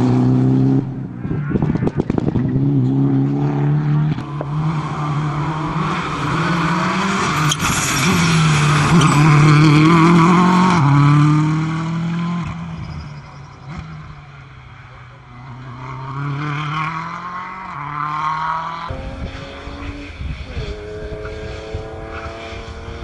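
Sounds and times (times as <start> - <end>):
rally car passing at full speed: 0.0 - 23.0.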